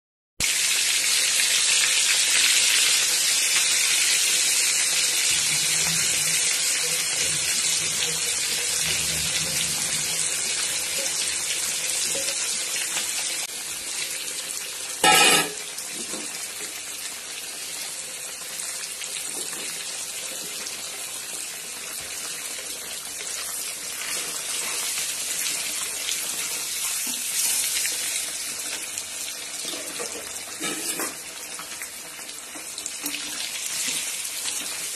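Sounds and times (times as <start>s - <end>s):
cheese sizzling in hot oil: 0.4s - 34.9s.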